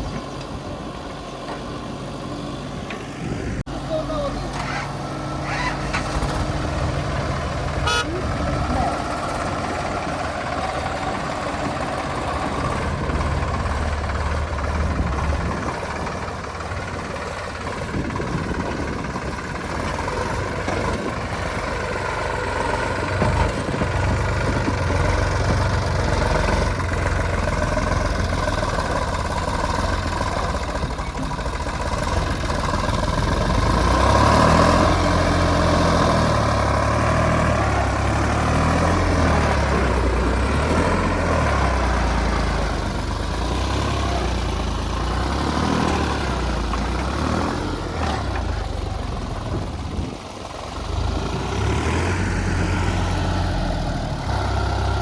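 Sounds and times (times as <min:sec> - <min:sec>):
diesel engines rumbling: 0:00.0 - 0:55.0.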